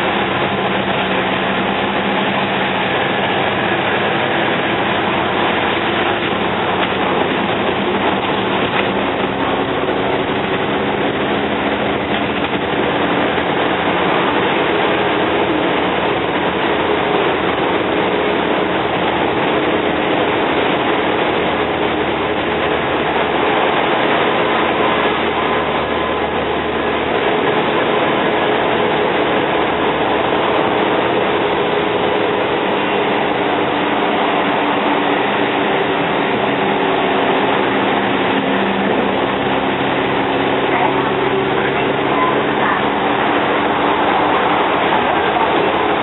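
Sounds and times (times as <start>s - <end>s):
bus diesel engine hum: 0.0s - 46.0s
road and ride noise: 0.0s - 46.0s.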